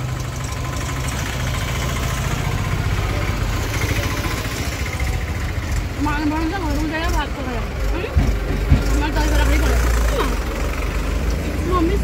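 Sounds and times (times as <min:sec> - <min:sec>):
auto-rickshaw engine idling: 0:00.0 - 0:12.0.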